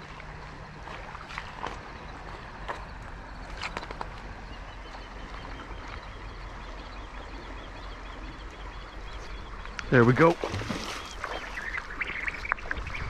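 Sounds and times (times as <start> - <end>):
river water rushing: 0.0 - 12.8
bird chirping: 1.6 - 13.0.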